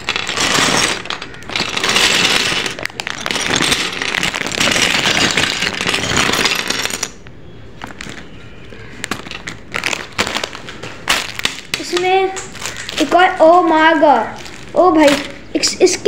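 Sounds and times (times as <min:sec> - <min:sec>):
plastic pieces clattering: 0:00.0 - 0:16.0.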